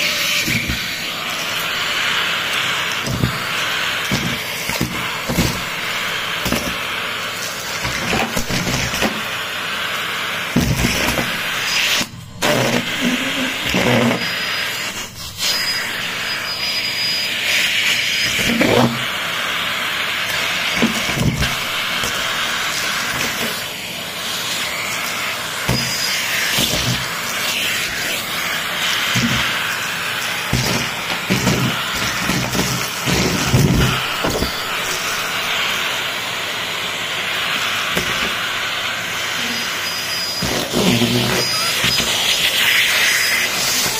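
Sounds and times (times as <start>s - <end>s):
vacuum cleaner suction hiss: 0.0s - 43.9s.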